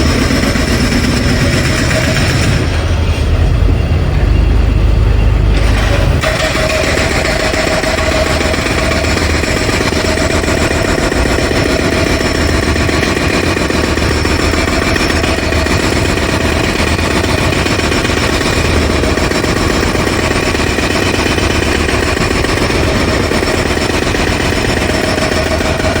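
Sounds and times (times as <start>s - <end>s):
jackhammer hammering: 0.0s - 2.9s, 5.6s - 26.0s.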